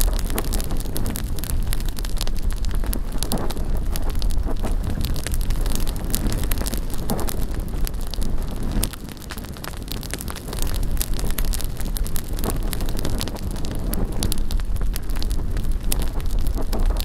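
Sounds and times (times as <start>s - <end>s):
bonfire crackling and popping: 0.0s - 17.0s
wind rumble on microphone: 0.0s - 17.0s.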